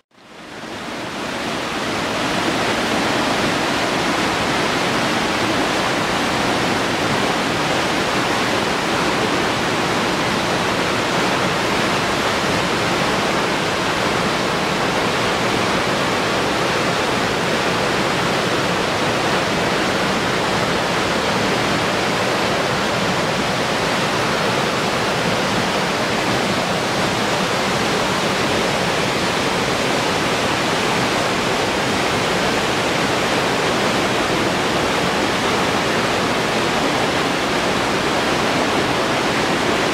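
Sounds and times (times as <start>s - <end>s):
river rushing through rapids: 0.2s - 39.9s.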